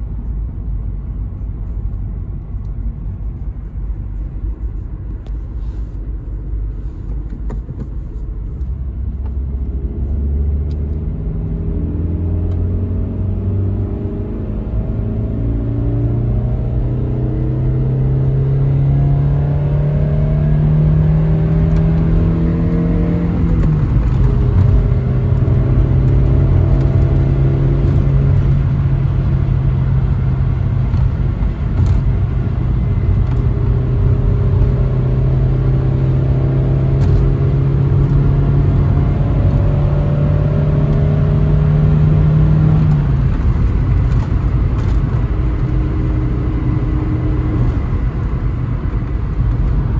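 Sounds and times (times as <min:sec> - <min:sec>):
road rumble: 0:00.0 - 0:49.9
car engine accelerating: 0:08.4 - 0:49.9.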